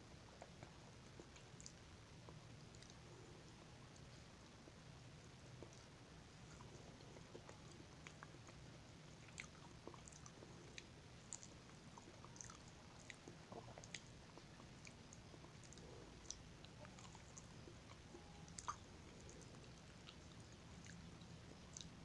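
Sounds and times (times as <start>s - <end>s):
chewing and mouth clicks: 0.3s - 4.3s, 5.5s - 22.0s.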